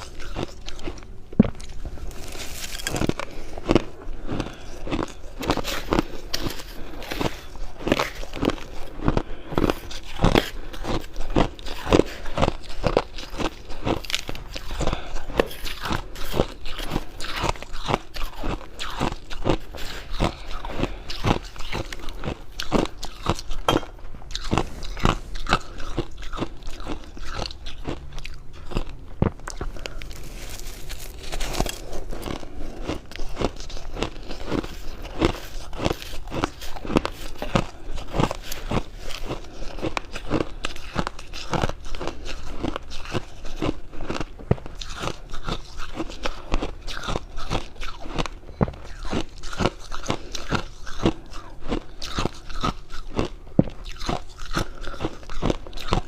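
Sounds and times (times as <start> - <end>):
chewing crunchy frost: 0.0 - 56.0.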